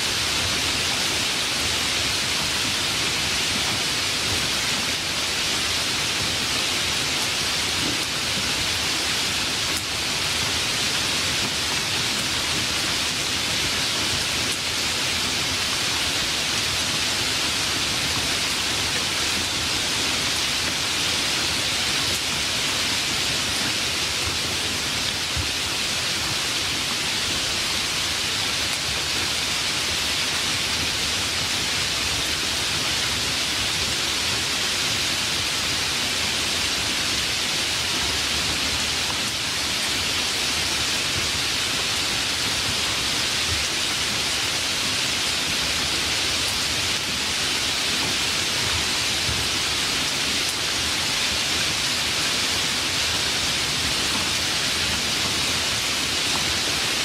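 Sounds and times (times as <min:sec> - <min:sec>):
rain hissing: 0:00.0 - 0:57.0.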